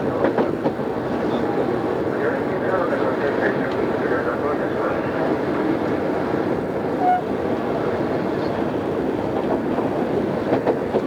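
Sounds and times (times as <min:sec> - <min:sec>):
electric train running on rails: 0:00.0 - 0:11.0.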